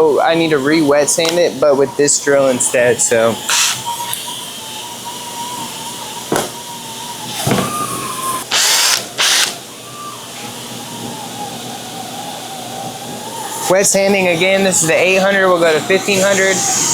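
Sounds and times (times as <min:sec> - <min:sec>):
electric drill motor whining: 0:00.0 - 0:16.9
loud hissing bursts: 0:00.0 - 0:16.9.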